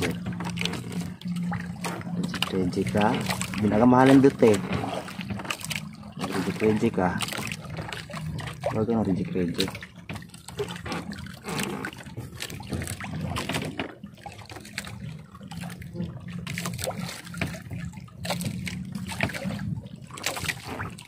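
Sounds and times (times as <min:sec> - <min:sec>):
low steady hum: 0:00.0 - 0:21.0
water dripping and splashing: 0:00.0 - 0:21.0.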